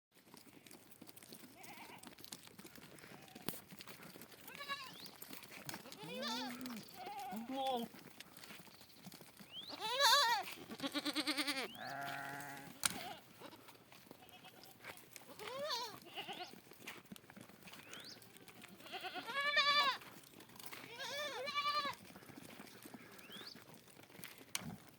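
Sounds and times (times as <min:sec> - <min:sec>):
goats and sheep bleating: 0:00.5 - 0:08.6, 0:09.5 - 0:16.8, 0:17.6 - 0:23.7.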